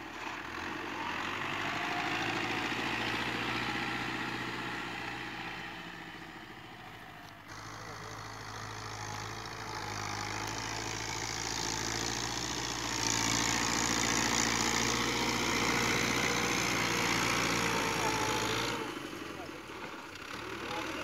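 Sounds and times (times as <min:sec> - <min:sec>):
tractor diesel engine hum: 0:00.0 - 0:21.0.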